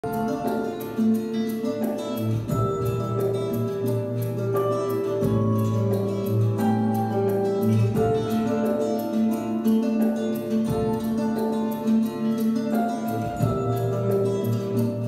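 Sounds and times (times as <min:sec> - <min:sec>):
instrumental backing track: 0:00.0 - 0:15.0.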